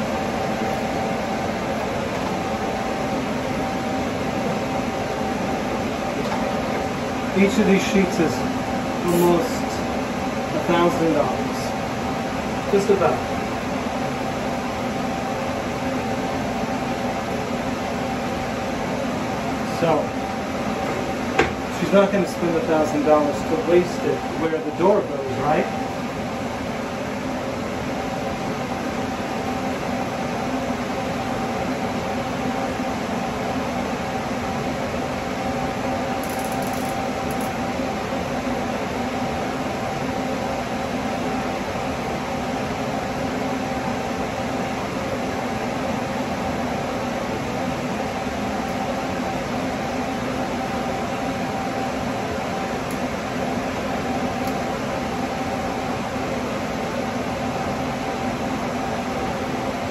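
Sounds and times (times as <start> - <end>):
ventilation fan hum: 0.0 - 59.9.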